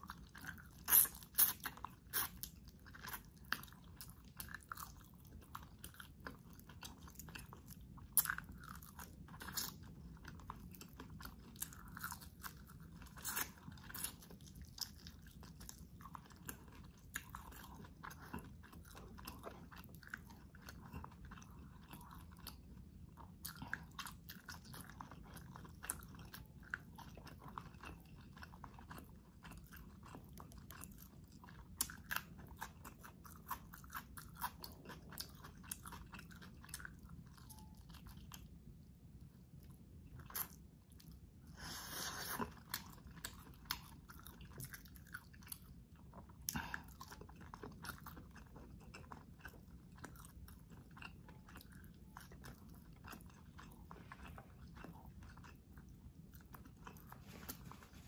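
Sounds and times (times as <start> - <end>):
crunchy chewing and biting: 0.0 - 38.6, 39.5 - 58.0.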